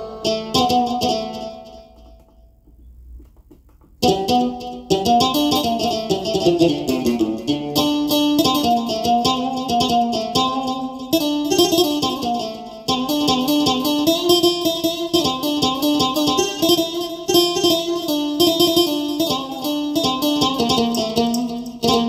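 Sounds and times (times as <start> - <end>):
plucked-string keyboard notes: 0.0 - 22.0.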